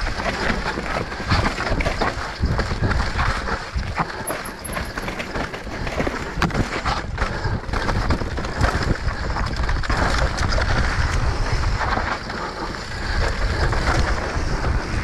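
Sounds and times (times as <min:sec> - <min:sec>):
bike rattling over bumps: 0:00.0 - 0:15.0
wind rushing over microphone: 0:00.0 - 0:15.0.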